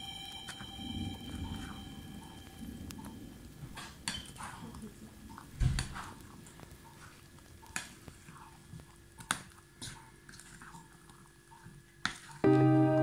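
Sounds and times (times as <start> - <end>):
soft wet stirring: 1.3 - 12.4.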